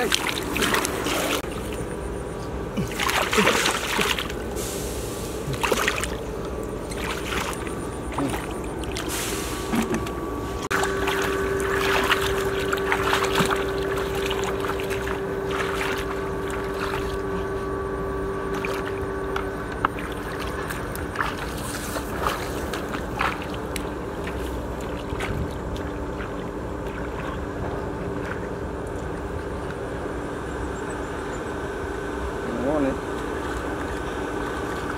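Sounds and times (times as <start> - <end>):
splashing in shallow muddy water: 0.0 - 2.0, 2.7 - 29.6
steady hum: 0.0 - 34.9.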